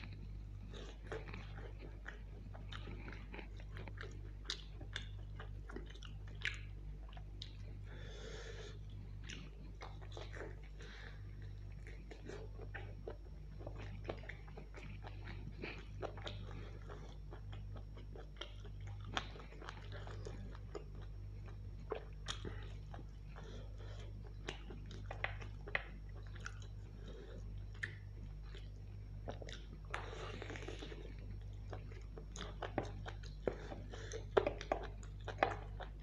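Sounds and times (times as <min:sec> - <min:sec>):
chewing and biting meat: 0:00.0 - 0:07.8, 0:08.7 - 0:36.0
steady low hum: 0:00.0 - 0:36.0.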